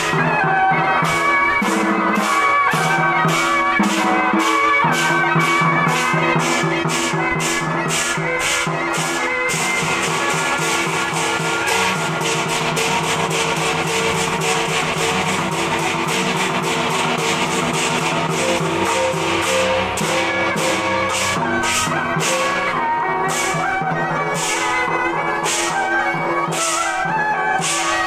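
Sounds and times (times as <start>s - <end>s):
music with melody and drum beat: 0.0s - 28.0s.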